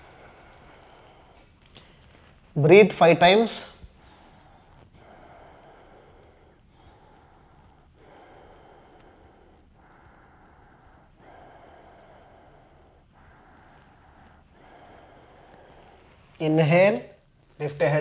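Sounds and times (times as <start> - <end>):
man breathing slowly: 0.0 - 2.6, 3.4 - 17.6.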